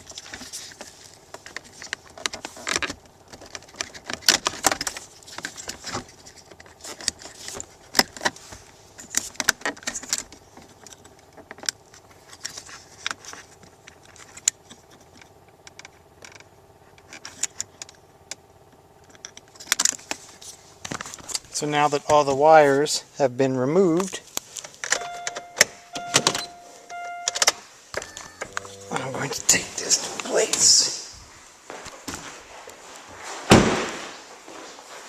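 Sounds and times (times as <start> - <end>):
faint steady hum: 0.0 - 33.4.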